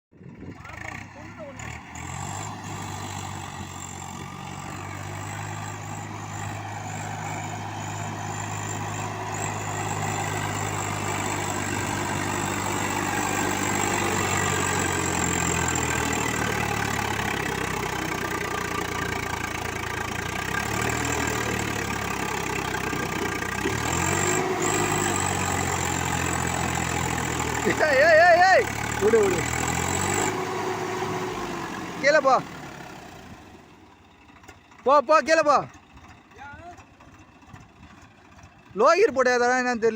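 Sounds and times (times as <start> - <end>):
diesel engine idling: 0.2 - 39.9.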